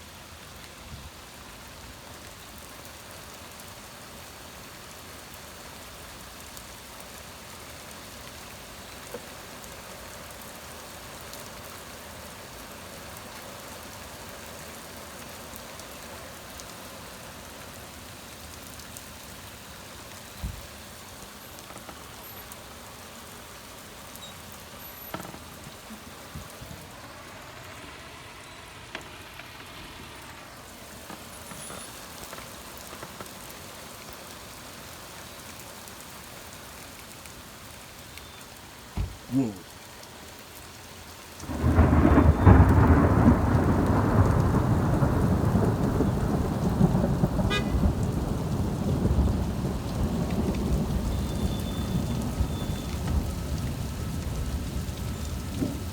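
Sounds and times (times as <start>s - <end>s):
heavy rain pouring: 0.0s - 55.9s
vehicle passing on wet road: 8.2s - 38.0s, 38.7s - 55.9s.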